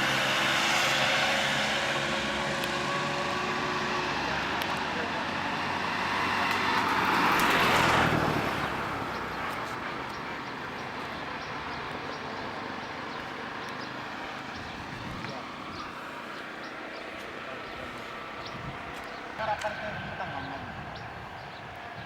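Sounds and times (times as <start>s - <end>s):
motorcycle motor and road noise: 0.0s - 22.0s.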